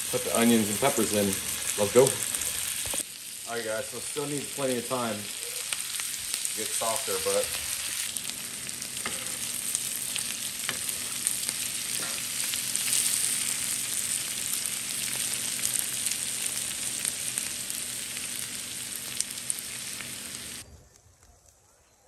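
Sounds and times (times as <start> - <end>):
vegetables and bacon sizzling in a pan: 0.0 - 20.6.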